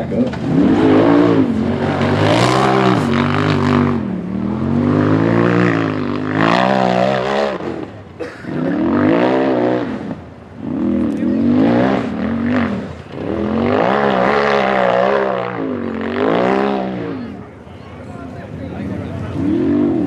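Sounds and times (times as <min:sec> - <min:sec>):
buggy engine revving hard: 0:00.0 - 0:17.4, 0:19.1 - 0:20.0.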